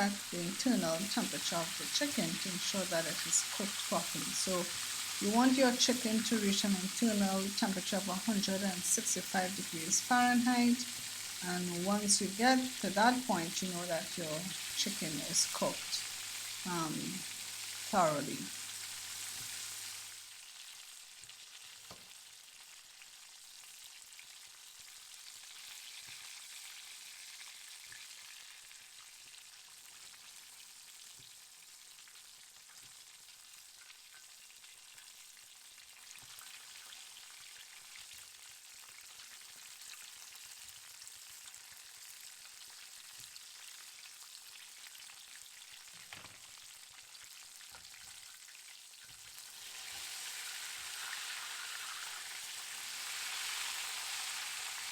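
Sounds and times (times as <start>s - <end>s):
chicken sizzling in hot oil: 0.0s - 54.9s.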